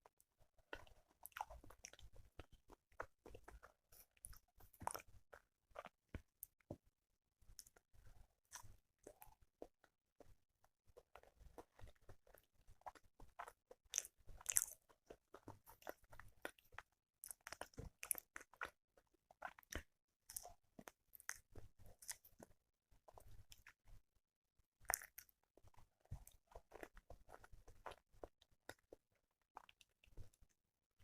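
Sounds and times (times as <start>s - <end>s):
chewing and mouth clicks: 0.1s - 6.8s, 7.4s - 24.0s, 24.8s - 30.6s.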